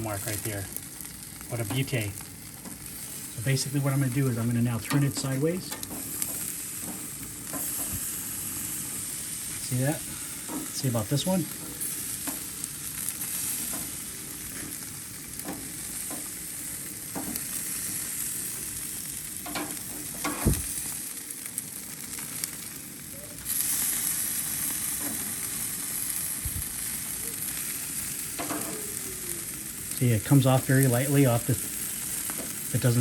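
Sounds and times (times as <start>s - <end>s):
steaks sizzling on grill: 0.0s - 33.0s.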